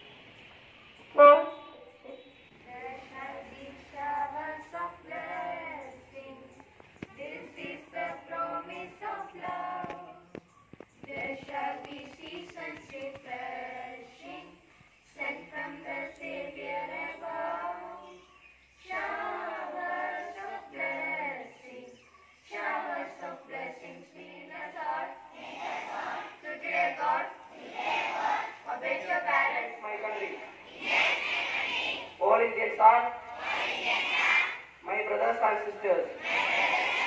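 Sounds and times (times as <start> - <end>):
children singing in chorus: 2.6 - 10.4, 11.0 - 32.2, 33.3 - 34.7, 36.1 - 37.0.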